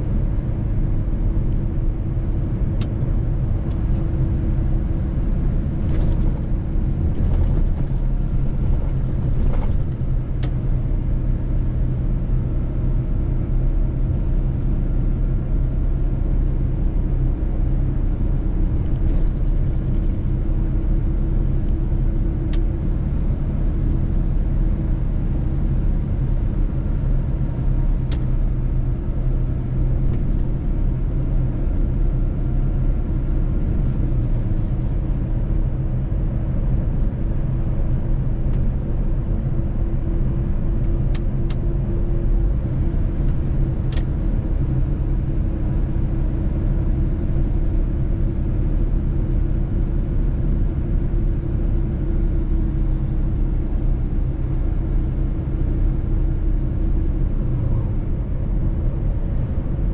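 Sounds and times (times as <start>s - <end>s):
truck engine and tyres droning: 0.0s - 59.9s.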